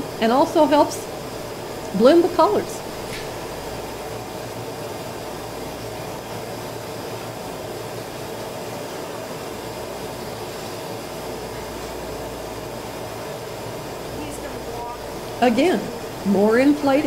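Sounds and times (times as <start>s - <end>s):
furnace rushing with faint hum: 0.0s - 17.0s.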